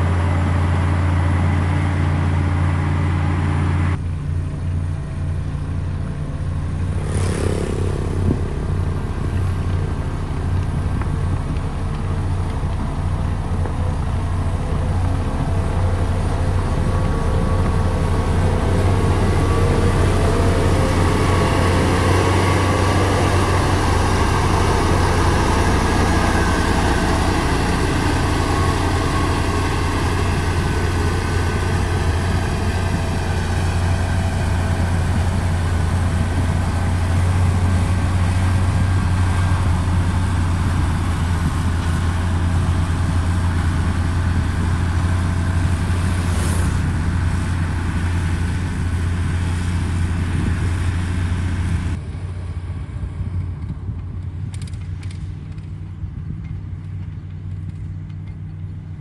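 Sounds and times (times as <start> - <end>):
diesel roller engine running: 0.0 - 59.0.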